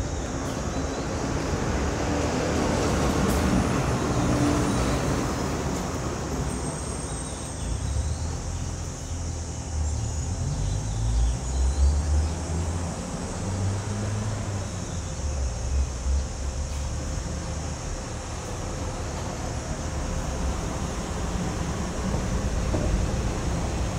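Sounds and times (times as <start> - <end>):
low traffic rumble: 0.0 - 23.9.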